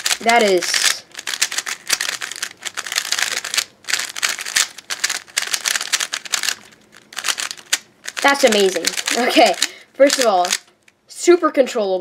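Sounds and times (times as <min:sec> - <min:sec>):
puzzle cube clicking clatter: 0:00.0 - 0:10.7.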